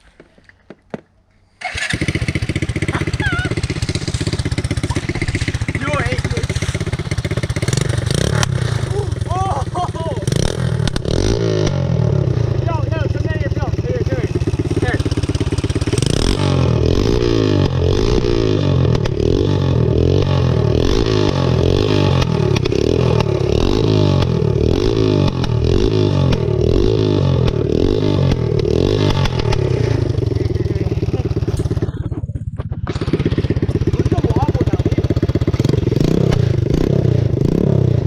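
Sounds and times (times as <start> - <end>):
loud atv engine revving: 1.6 - 38.0.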